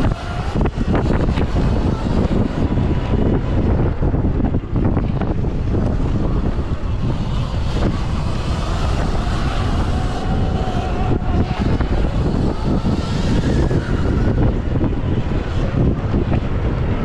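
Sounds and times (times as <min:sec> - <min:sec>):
electric motor whine: 0:00.0 - 0:17.0
wind buffeting microphone: 0:00.0 - 0:17.0.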